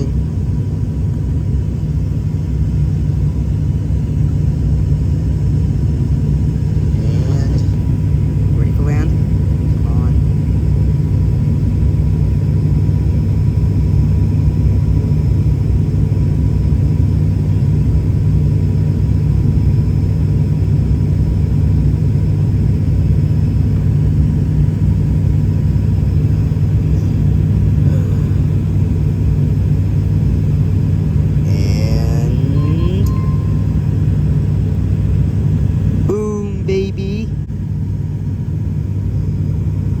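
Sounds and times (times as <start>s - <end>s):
airplane cabin engine rumble: 0.0s - 40.0s.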